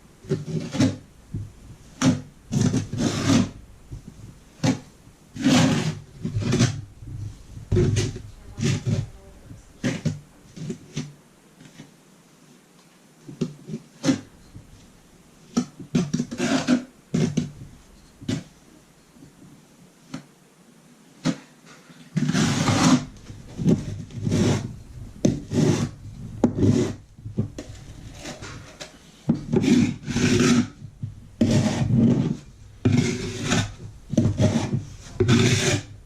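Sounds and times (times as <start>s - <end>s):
hand tool scraping filler: 0.2s - 11.9s, 13.3s - 14.9s, 15.5s - 18.6s, 21.2s - 36.0s.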